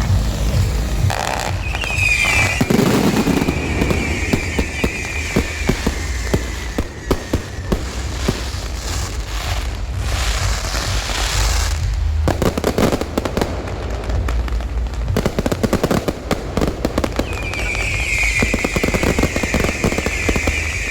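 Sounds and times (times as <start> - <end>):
firework bangs: 0.1 - 20.9
whistling firework: 1.1 - 20.9.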